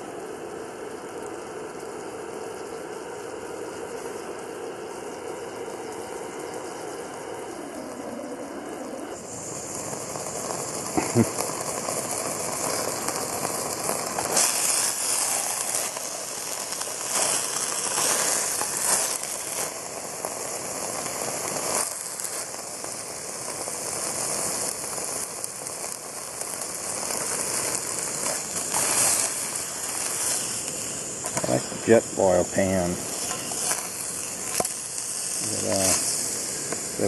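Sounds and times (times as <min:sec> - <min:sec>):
patty sizzling in a pan: 0:00.0 - 0:37.0.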